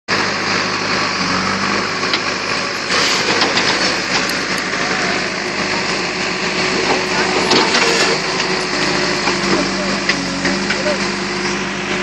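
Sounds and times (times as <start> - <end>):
backhoe diesel engine running: 0.1 - 12.0.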